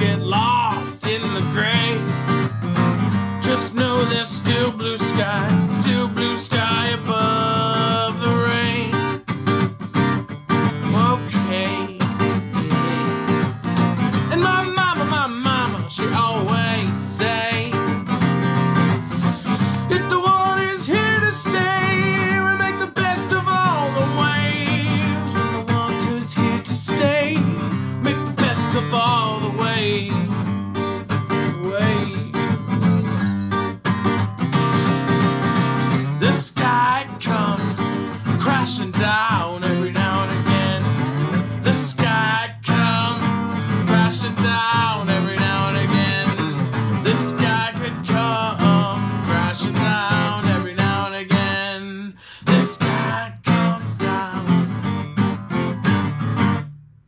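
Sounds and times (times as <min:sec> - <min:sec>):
man singing: 0:00.0 - 0:02.4, 0:03.4 - 0:09.2, 0:10.6 - 0:18.2, 0:19.2 - 0:30.6, 0:31.3 - 0:32.8, 0:35.8 - 0:54.8
acoustic guitar strumming: 0:00.0 - 0:57.0.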